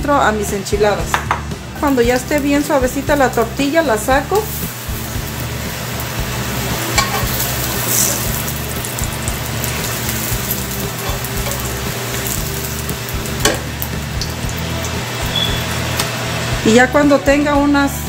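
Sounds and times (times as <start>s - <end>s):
tortilla sizzling in hot oil: 1.8s - 16.8s
spatula turning food in pan: 1.9s - 16.6s.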